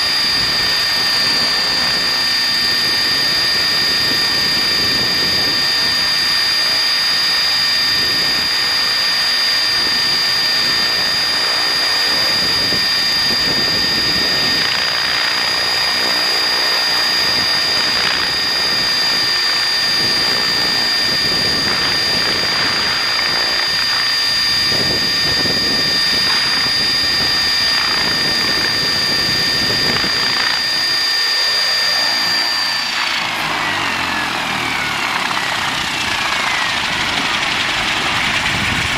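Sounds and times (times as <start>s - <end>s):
small motor whining: 0.0s - 38.9s.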